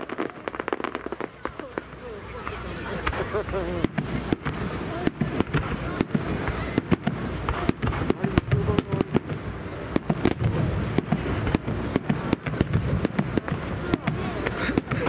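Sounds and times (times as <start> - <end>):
fireworks launching and bursting: 0.0 - 15.0.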